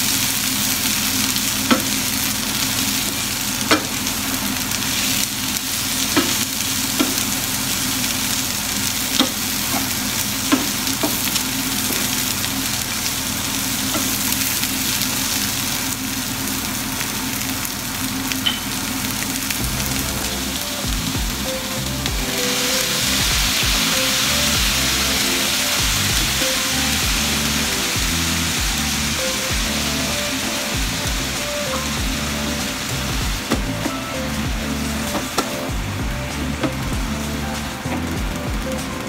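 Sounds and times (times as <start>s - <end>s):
vegetables sizzling in frying pan: 0.0s - 39.0s.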